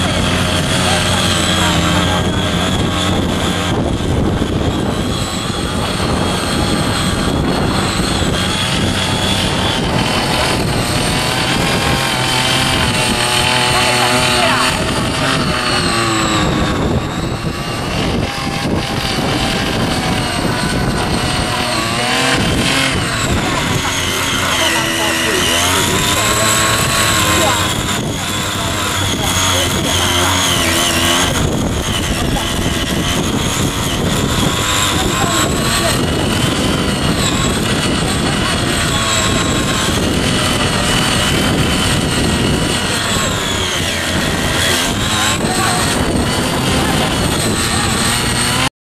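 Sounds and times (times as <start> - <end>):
small tiller engine running hard: 0.0 - 48.7.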